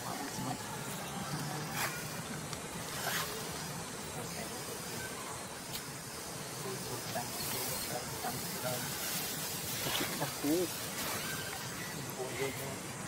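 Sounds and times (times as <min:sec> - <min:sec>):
crackles of dry leaf litter: 0:00.0 - 0:13.0
steady outdoor hiss: 0:00.0 - 0:13.0.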